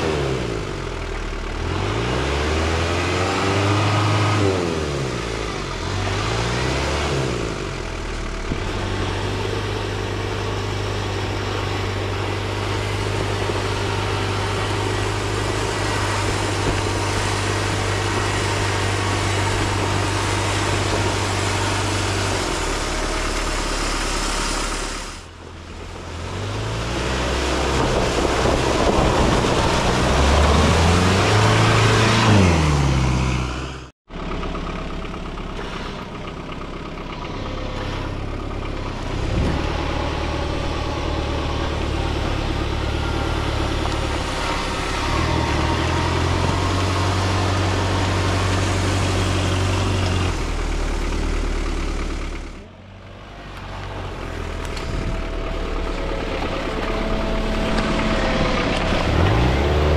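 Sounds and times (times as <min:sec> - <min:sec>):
engine revving through water and mud: 0:00.0 - 0:59.9.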